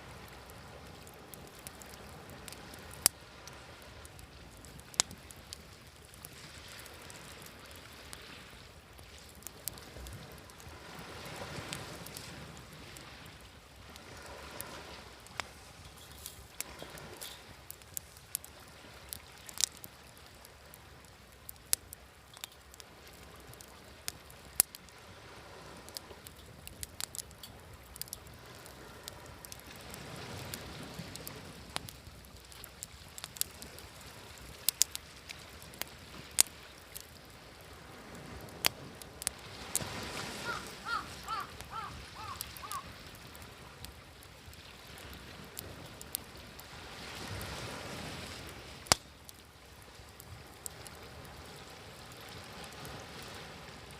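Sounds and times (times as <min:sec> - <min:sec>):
campfire crackling and popping: 0:00.0 - 0:53.9
sea waves: 0:00.0 - 0:53.9.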